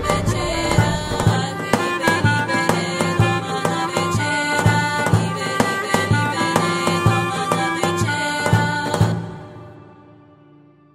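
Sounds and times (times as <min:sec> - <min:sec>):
background music with steady beat: 0:00.0 - 0:10.8.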